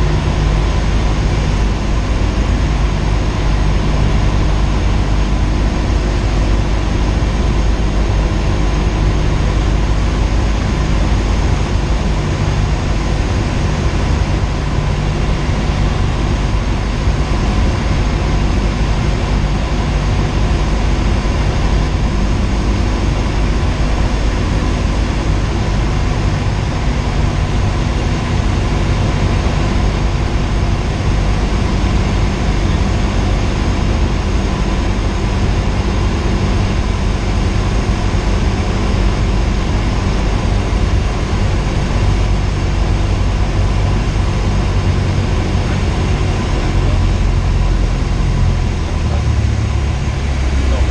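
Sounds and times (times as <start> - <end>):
airplane engine and propeller drone: 0.0 - 50.9.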